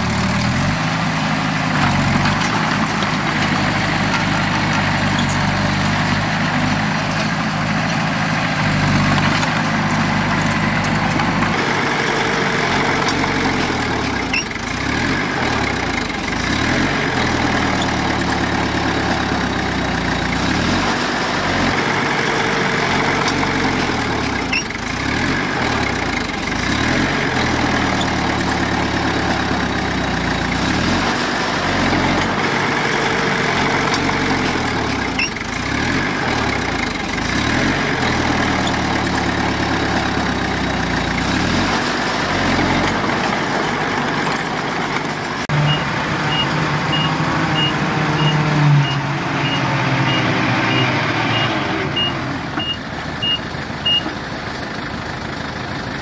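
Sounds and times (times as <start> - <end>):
diesel engine under changing load: 0.0 - 56.0.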